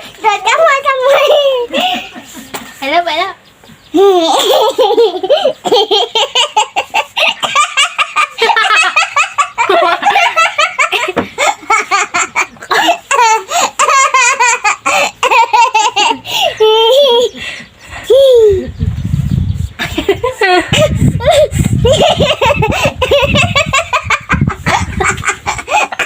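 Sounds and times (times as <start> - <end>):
small child laughing: 3.9 - 18.8, 19.7 - 26.0.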